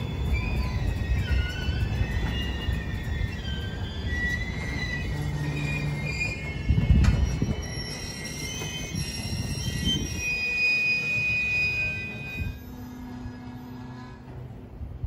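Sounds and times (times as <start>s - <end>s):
wheels squealing: 0.0s - 14.9s
train wheels rumbling on rail: 0.0s - 15.0s.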